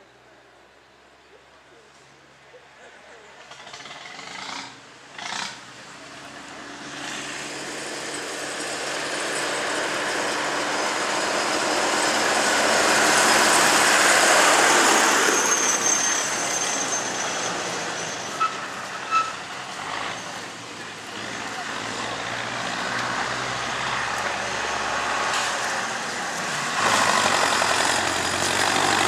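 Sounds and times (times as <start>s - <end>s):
tractor engine passing: 3.3s - 29.0s.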